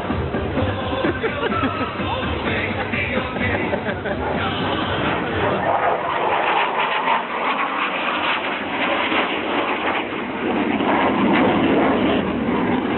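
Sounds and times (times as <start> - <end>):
jet engine passing: 1.6 - 12.9.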